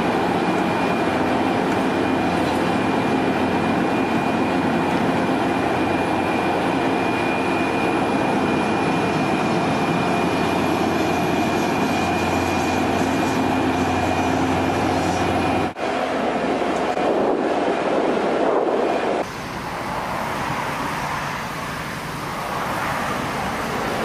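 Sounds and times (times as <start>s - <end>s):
high-pitched machinery whine: 0.0s - 24.0s
low engine hum: 0.0s - 24.0s.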